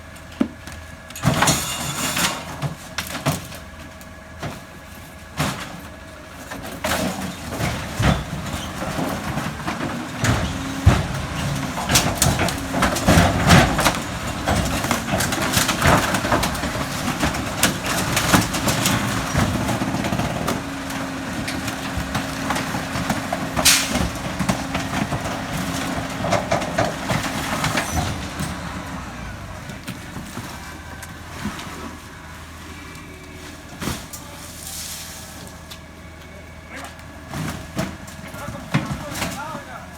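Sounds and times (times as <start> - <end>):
truck engine and hydraulic hum: 0.0 - 39.9.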